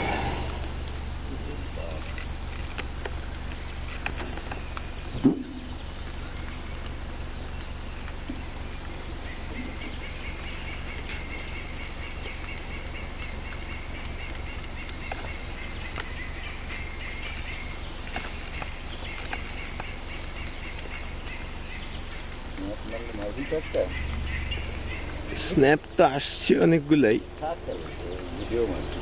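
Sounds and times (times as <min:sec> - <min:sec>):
high-pitched insect chirring: 0:00.0 - 0:29.0
steady hiss: 0:00.0 - 0:29.0.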